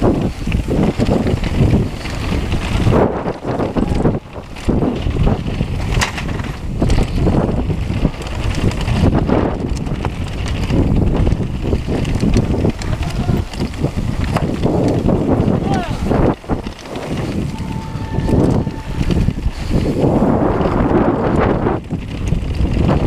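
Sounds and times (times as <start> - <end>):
bike knocks and rattles: 0.0 - 23.0
bike tyres on dirt: 0.0 - 23.0
wind on microphone: 0.0 - 23.0.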